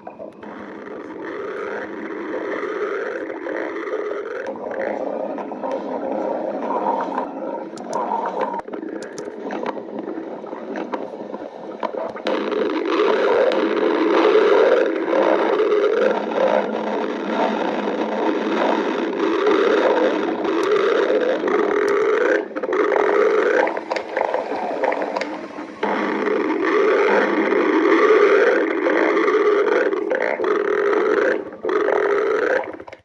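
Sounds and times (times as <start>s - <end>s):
stomach growling: 0.0s - 33.0s.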